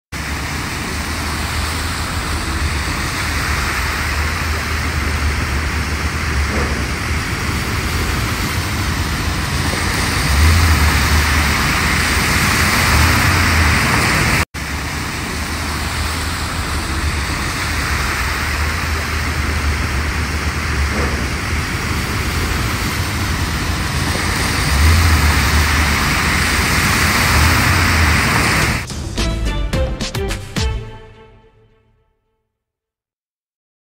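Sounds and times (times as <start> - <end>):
traffic noise: 0.1 - 29.9
tyres splashing through water: 0.2 - 29.4
low engine rumble: 0.2 - 29.8.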